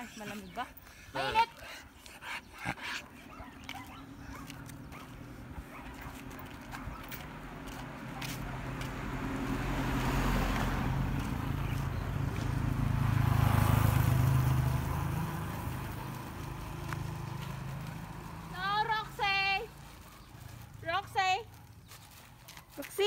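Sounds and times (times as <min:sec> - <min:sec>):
vehicle engine hum passing: 0:00.0 - 0:21.7.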